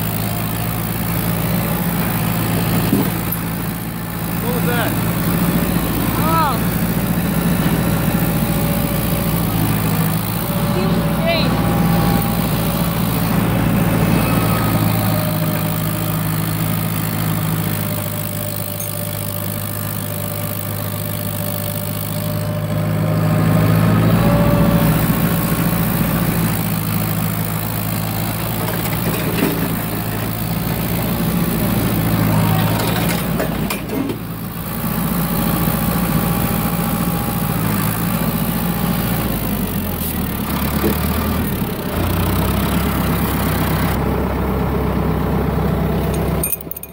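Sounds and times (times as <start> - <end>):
snow blower auger chewing snow: 0.0 - 44.1
tractor engine under load: 0.0 - 46.9.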